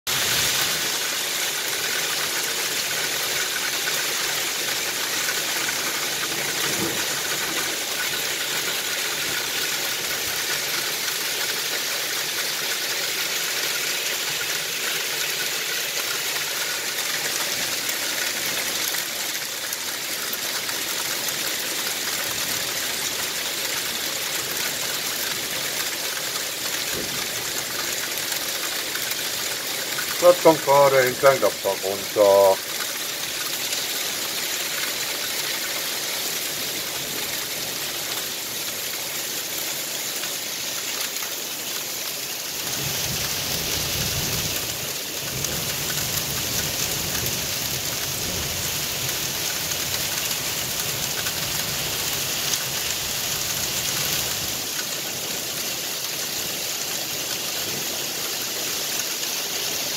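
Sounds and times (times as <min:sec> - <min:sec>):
heavy rain and hail: 0:00.1 - 0:59.9.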